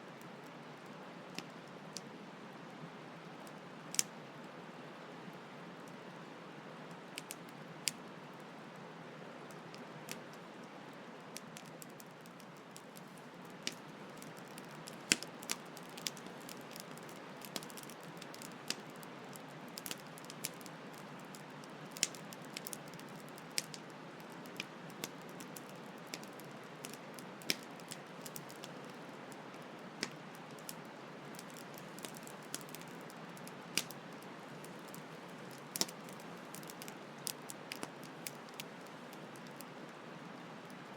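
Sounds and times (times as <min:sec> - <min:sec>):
campfire crackling and popping: 0:03.4 - 0:04.2, 0:07.0 - 0:08.5, 0:09.4 - 0:40.9.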